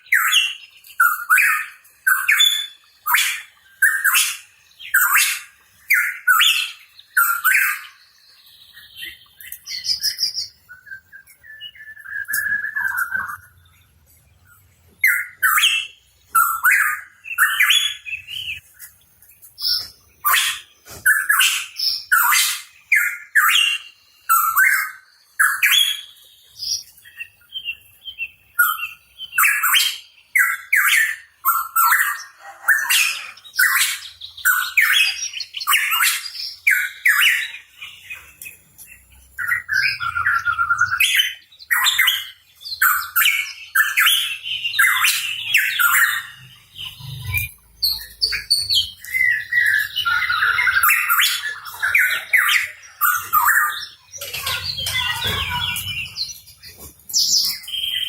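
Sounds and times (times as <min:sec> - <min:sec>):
bird chirping and squawking: 0:00.0 - 0:13.8, 0:15.0 - 0:18.8, 0:19.6 - 0:58.0.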